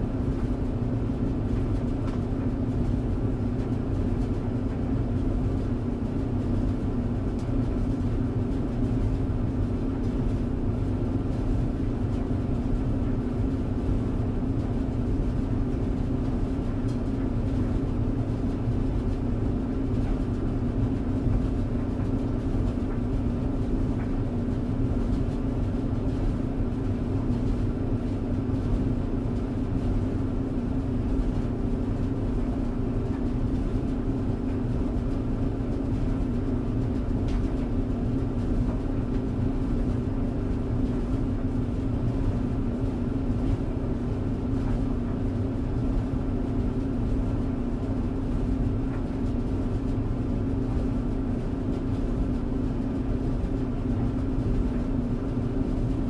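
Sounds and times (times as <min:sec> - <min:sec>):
tumble dryer running: 0:00.0 - 0:56.0.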